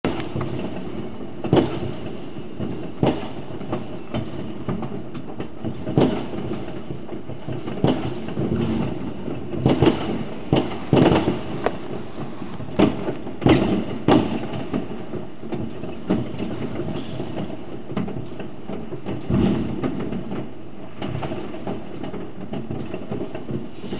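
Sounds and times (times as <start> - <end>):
fireworks bangs: 0.0 - 23.9
fireworks crackle and rumble: 0.0 - 23.9.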